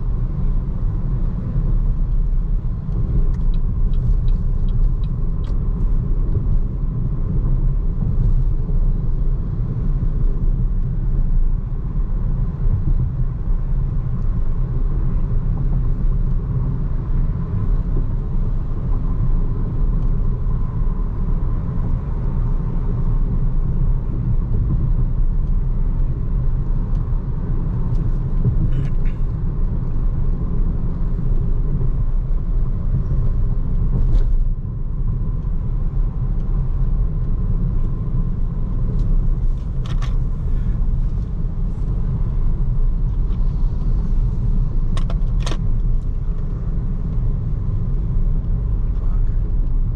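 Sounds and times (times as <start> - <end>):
road and tyre noise: 0.0 - 49.9.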